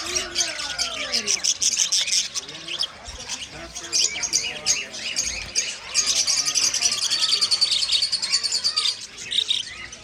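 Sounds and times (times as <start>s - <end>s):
budgerigars chattering and chirping: 0.0s - 10.0s.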